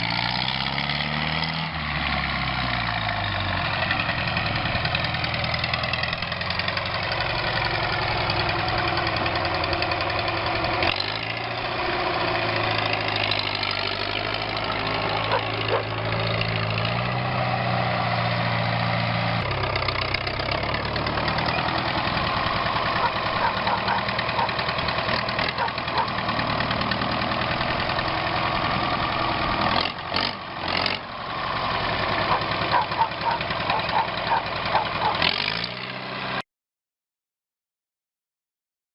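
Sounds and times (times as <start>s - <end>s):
tractor diesel engine running: 0.0s - 36.4s.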